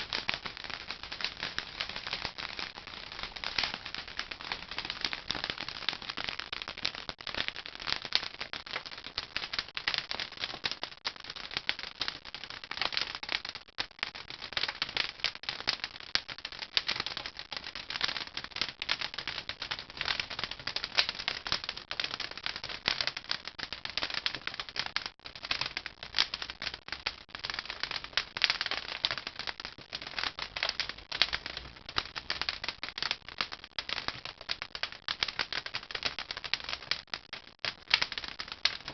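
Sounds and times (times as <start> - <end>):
firewood crackling: 0.0 - 15.1, 15.8 - 38.9.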